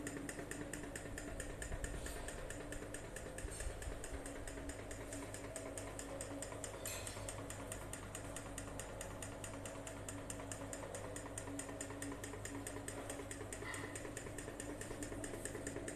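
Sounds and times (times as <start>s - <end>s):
low steady hum: 0.0s - 15.9s
small engine rapid clicking: 0.0s - 15.9s.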